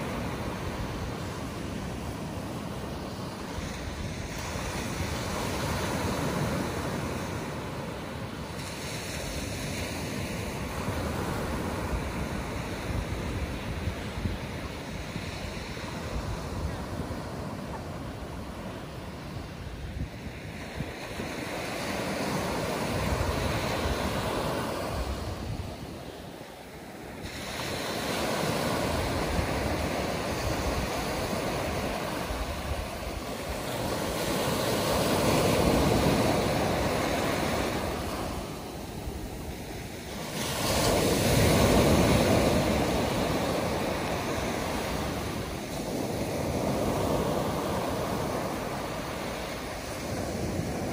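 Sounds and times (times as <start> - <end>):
waves breaking on a sandy beach: 0.0 - 50.9.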